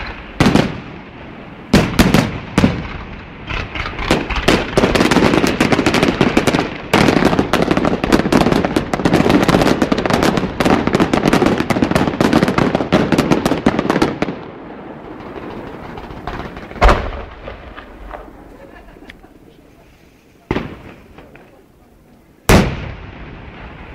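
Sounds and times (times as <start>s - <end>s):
fireworks cracks and bangs: 0.0s - 23.9s.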